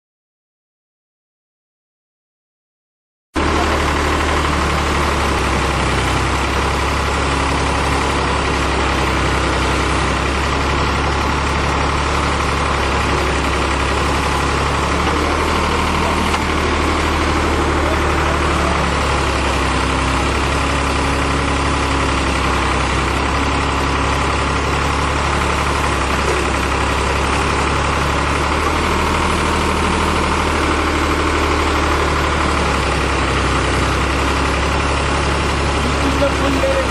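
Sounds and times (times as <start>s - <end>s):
diesel engine humming: 3.4s - 36.9s.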